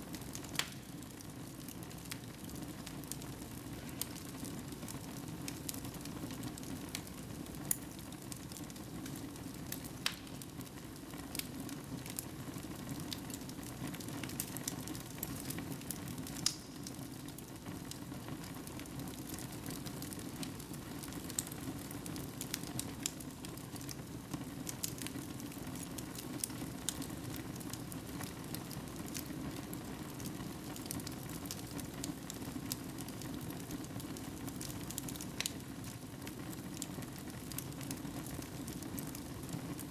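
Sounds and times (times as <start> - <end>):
logs crackling and popping: 0.1 - 39.9.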